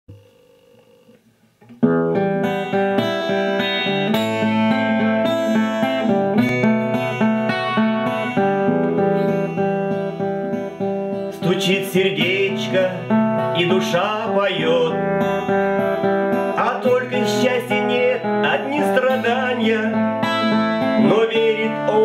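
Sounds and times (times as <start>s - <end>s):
instrumental music with held chords: 0.1s - 22.0s.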